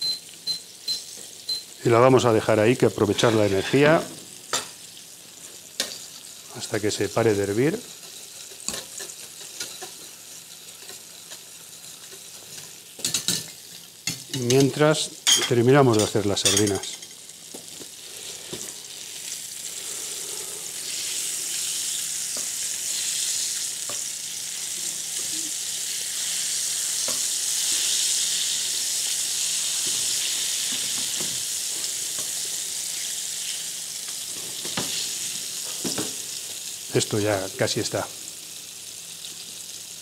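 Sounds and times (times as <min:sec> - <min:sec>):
fish sizzling in hot oil: 0:03.1 - 0:15.4, 0:16.4 - 0:40.0.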